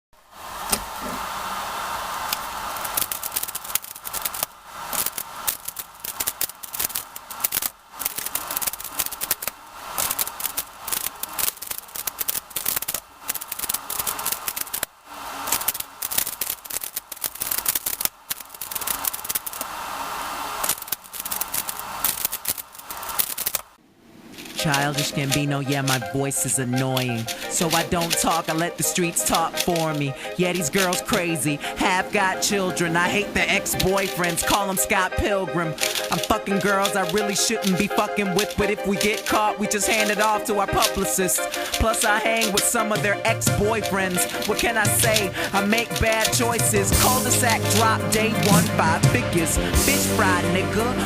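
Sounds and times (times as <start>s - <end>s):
speedcube clicking and clattering: 2.2s - 19.8s, 20.5s - 50.4s.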